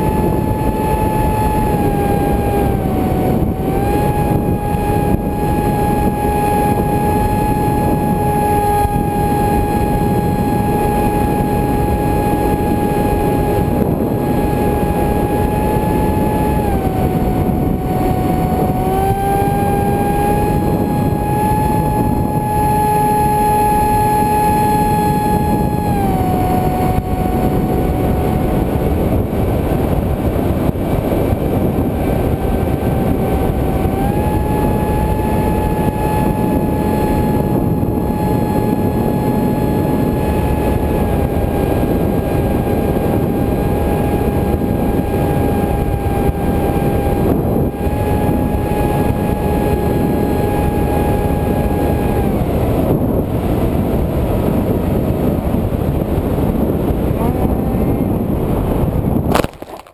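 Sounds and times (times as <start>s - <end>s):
electric motor whining: 0.0s - 59.9s
wind rushing: 0.0s - 59.9s.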